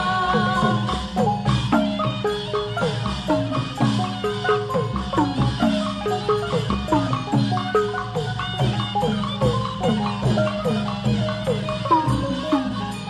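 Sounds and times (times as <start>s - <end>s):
tuned percussion ringing notes: 0.0s - 13.0s.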